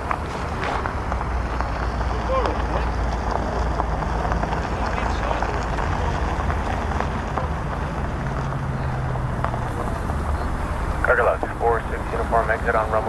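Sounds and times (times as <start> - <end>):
faint voices: 0.0 - 13.0
outdoor rumble: 0.0 - 13.0.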